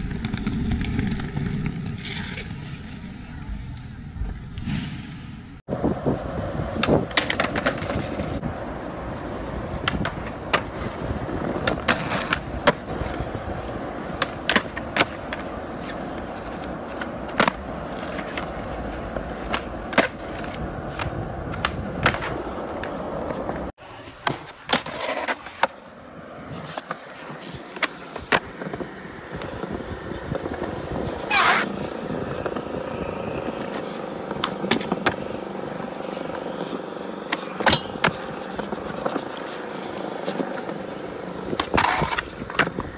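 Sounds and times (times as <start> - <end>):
skateboard clacks: 0.0 - 2.5, 6.7 - 25.8, 26.5 - 42.9
skateboard scrape: 0.0 - 42.9
skateboard wheels rolling: 0.0 - 42.9.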